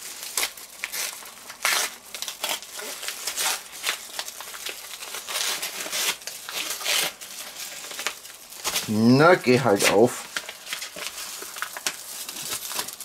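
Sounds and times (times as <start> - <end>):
foil and paper crinkling: 0.0 - 13.0.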